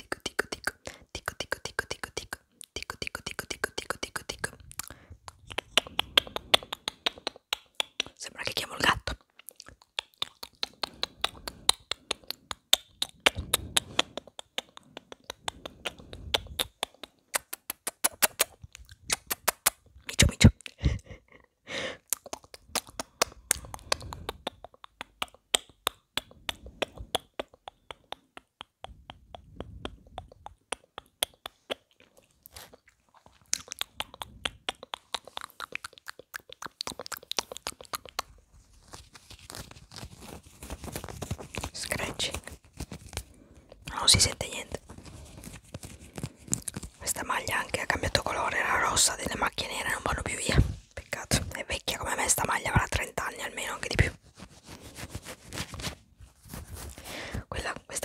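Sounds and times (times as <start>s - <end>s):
mouth and tongue clicks: 0.0s - 21.2s, 22.0s - 54.2s.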